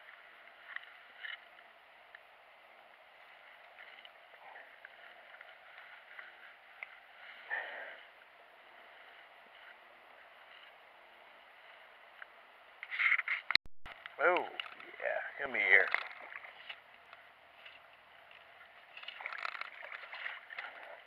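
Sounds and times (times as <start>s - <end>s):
water and handling noises: 0.0s - 10.8s, 12.8s - 21.0s.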